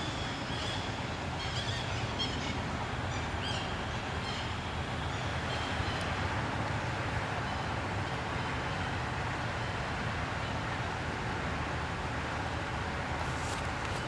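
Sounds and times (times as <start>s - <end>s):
outdoor rumble and hiss: 0.0s - 14.0s.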